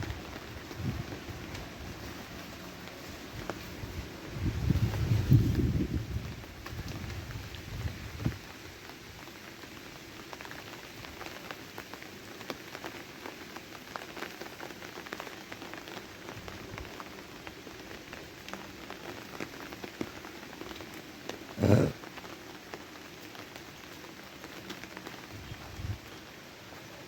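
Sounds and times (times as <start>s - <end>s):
rain drops ticking: 0.0s - 27.0s.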